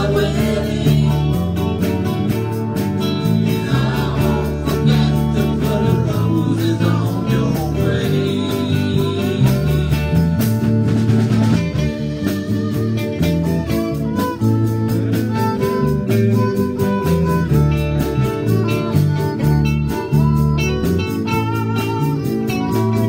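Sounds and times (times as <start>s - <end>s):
live country-rock band playing: 0.0s - 23.0s.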